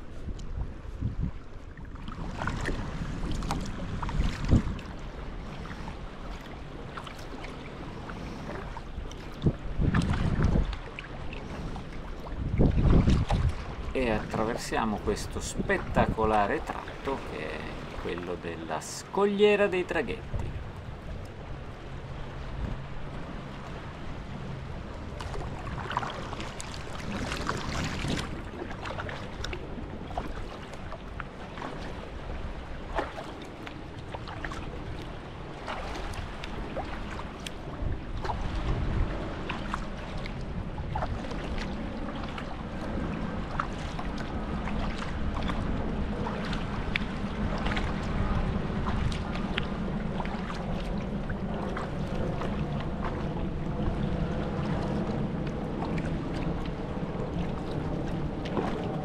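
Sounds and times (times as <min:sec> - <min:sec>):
paddle water splashing: 0:00.0 - 0:59.0
wind rumble on microphone: 0:00.0 - 0:59.0.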